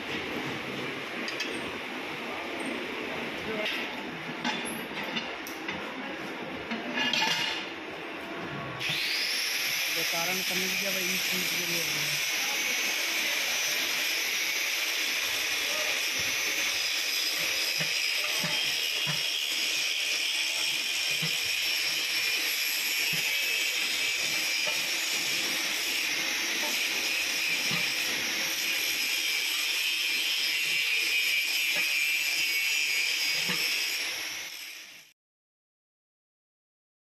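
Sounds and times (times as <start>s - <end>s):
workshop machinery hiss and whine: 0.0s - 35.1s.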